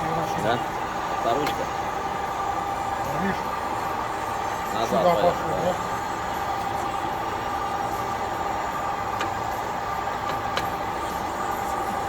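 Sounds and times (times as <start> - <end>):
lathe running with gear whine: 0.0 - 12.0.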